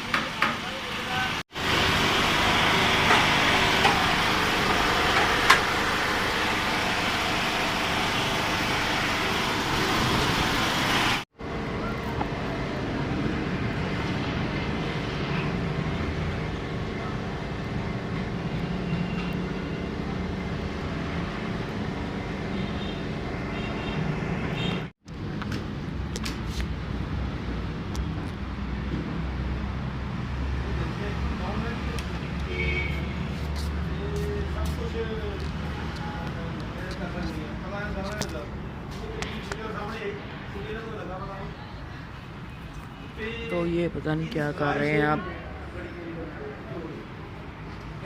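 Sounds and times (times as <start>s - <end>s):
engine hum: 0.8s - 39.7s.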